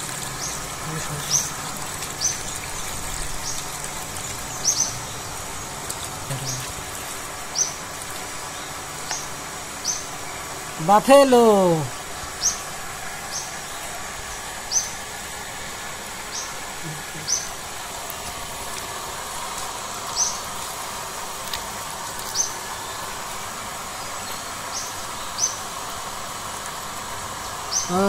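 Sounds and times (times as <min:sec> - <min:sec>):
water pouring from a hose: 0:00.0 - 0:09.8, 0:15.0 - 0:28.0.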